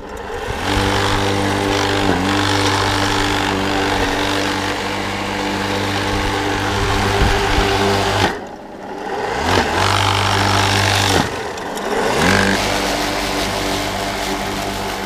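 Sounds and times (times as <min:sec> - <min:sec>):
electric lawn mower humming: 0:00.0 - 0:15.0.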